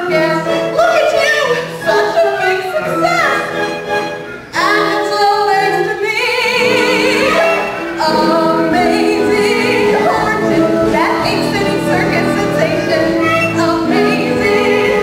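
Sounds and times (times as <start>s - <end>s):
instrumental accompaniment: 0.0s - 15.0s
person singing with vibrato: 0.0s - 15.0s.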